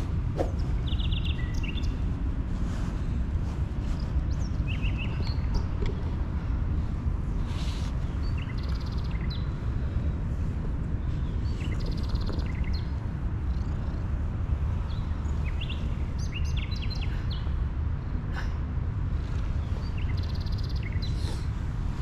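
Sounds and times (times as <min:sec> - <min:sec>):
small birds chirping: 0:00.0 - 0:06.5, 0:07.2 - 0:17.7, 0:19.2 - 0:22.0.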